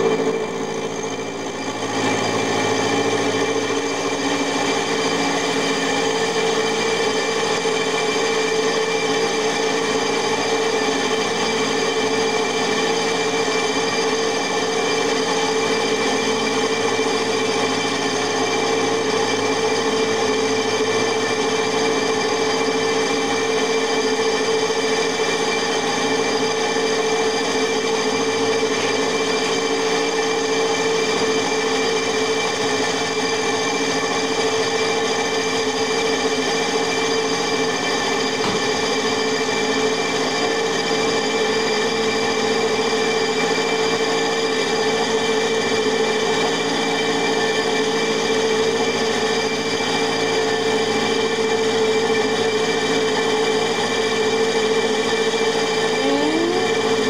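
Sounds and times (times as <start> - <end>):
milling machine whine: 0.0 - 57.0.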